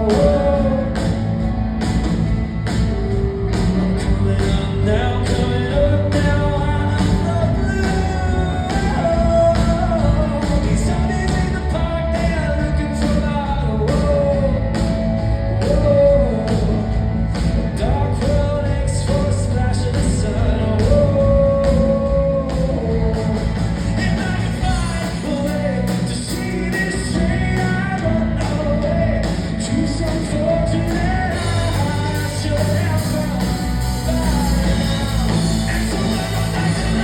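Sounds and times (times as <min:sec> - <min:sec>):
male singer: 0:00.0 - 0:01.5, 0:03.5 - 0:37.0
drums steady beat: 0:00.0 - 0:37.0
rock band playing: 0:00.0 - 0:37.0.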